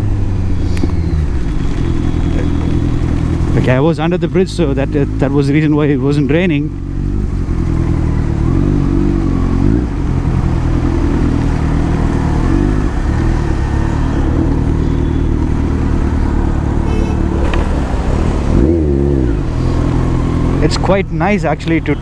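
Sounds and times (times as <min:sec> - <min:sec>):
rain noise: 0:00.0 - 0:20.9
motorcycle engine running: 0:00.0 - 0:22.0.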